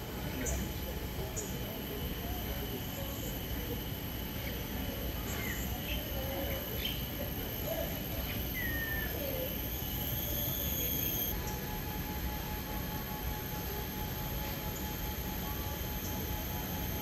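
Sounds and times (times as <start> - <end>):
high-pitched hum: 0.0 - 17.0.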